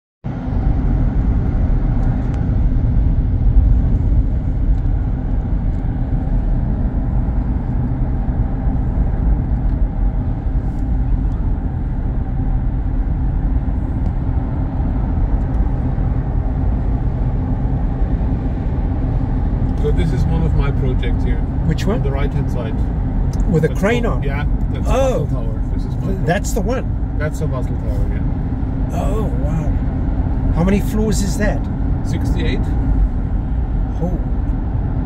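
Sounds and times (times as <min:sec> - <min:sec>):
car cabin road rumble: 0:00.2 - 0:35.0.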